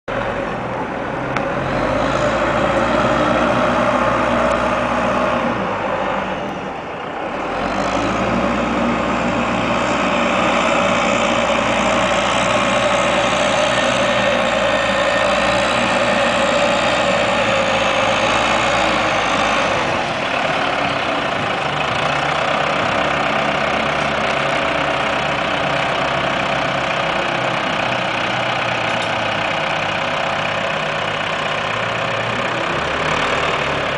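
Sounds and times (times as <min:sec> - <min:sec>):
heavy diesel machines running: 0:00.1 - 0:33.9.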